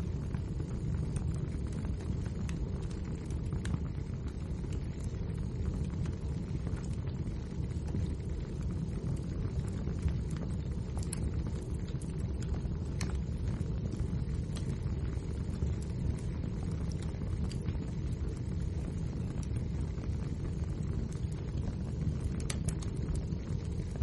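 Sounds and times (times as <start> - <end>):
burning logs crackling and popping: 0.0 - 24.0
low rumble of flames: 0.0 - 24.0.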